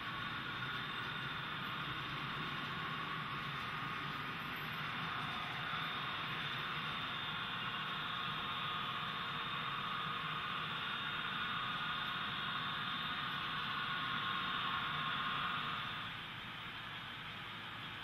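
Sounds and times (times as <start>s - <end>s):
model train running: 0.0s - 18.0s.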